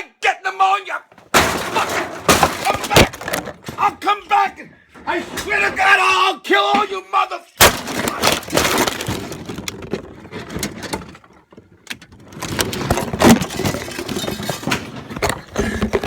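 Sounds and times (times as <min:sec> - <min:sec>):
objects banging and crashing: 0:01.1 - 0:06.2, 0:07.6 - 0:16.0.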